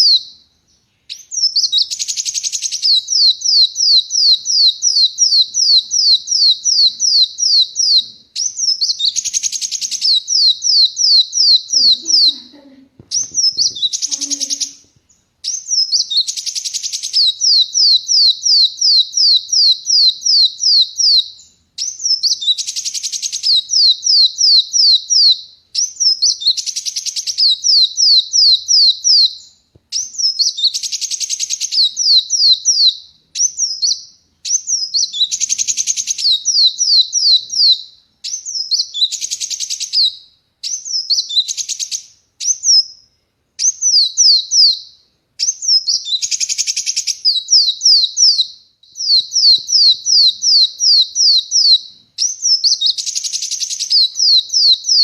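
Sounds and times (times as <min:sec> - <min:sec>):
sunbird whistled song: 0:00.0 - 0:12.4, 0:13.1 - 0:55.0.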